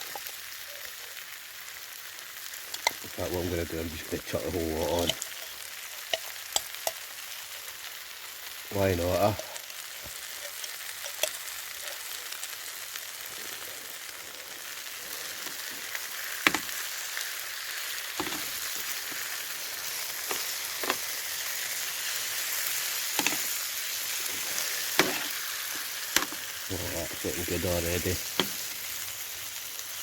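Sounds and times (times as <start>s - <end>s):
paste frying and sizzling: 0.0s - 30.0s.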